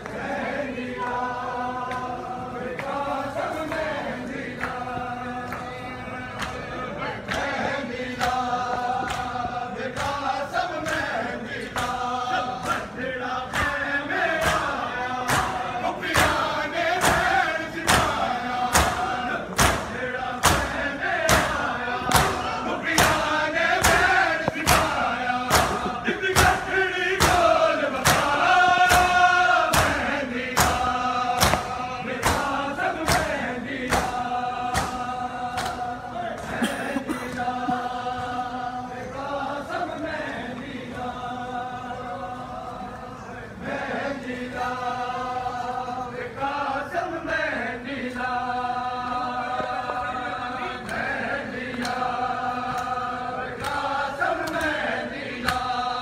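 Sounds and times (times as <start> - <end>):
rhythmic chest slapping: 0.0 - 41.4, 50.6 - 56.0
men chanting together: 0.0 - 56.0.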